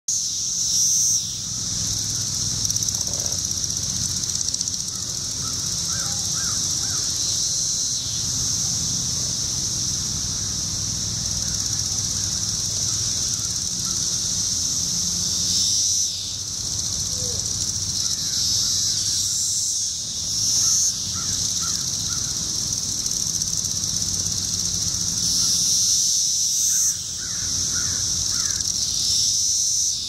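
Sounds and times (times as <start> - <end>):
cicadas droning: 0.1 - 30.0.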